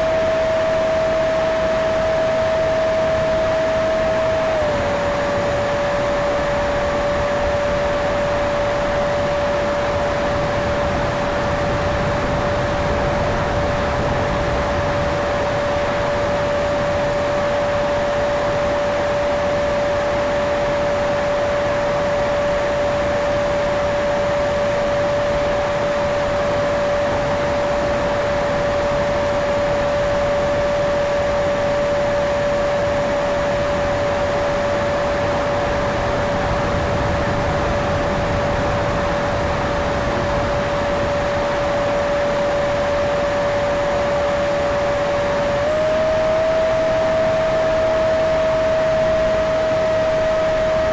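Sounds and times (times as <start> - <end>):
electric ducted fan whine: 0.0 - 50.9.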